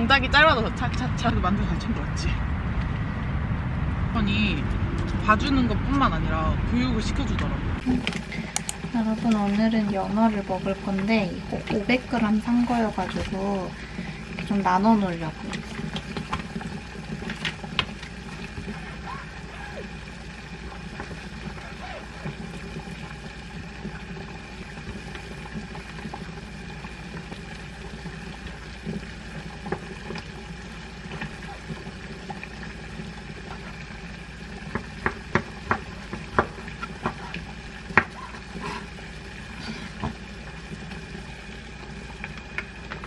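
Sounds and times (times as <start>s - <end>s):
steady hum: 0.0s - 43.0s.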